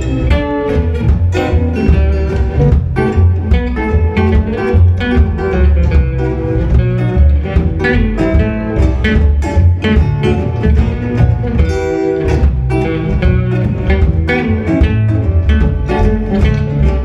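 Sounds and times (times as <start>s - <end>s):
plucked guitar: 0.0s - 17.0s
steady bass line: 0.0s - 17.0s.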